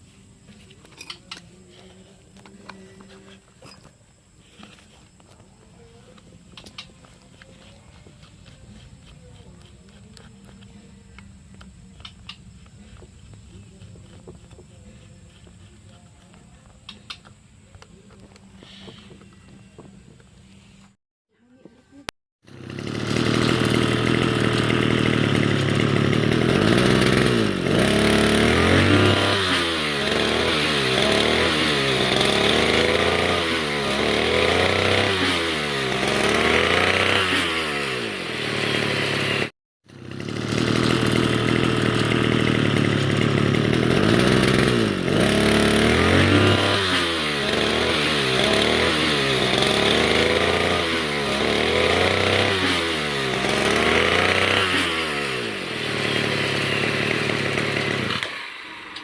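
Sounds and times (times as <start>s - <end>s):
brush cutter engine revving: 4.4s - 17.3s, 22.4s - 59.0s.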